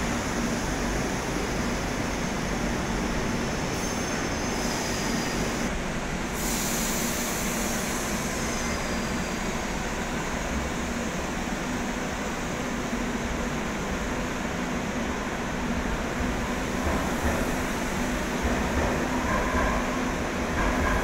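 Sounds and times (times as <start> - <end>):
train wheels and motors rumbling: 0.0 - 21.0.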